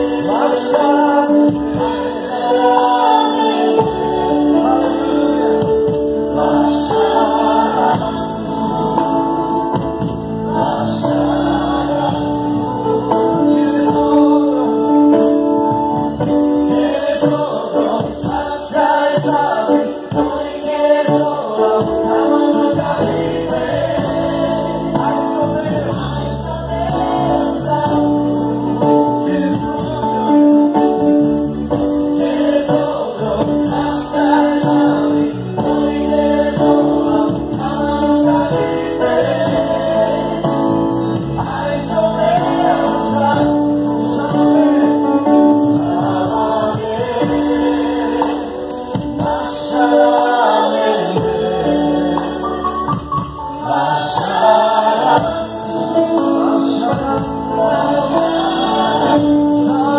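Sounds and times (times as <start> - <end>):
keyboard: 0.0 - 59.9
singers singing gospel: 0.0 - 59.9.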